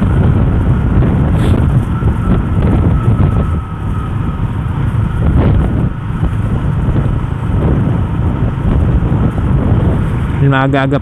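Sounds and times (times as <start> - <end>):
motorcycle engine running: 0.0 - 11.0
road noise: 0.0 - 11.0
wind buffeting the microphone: 0.0 - 11.0.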